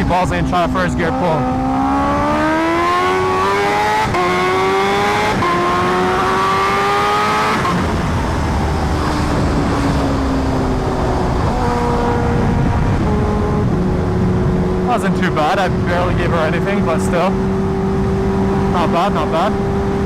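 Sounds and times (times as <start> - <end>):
motorcycle engine accelerating: 0.0 - 20.0
wind rushing on microphone: 0.1 - 20.0.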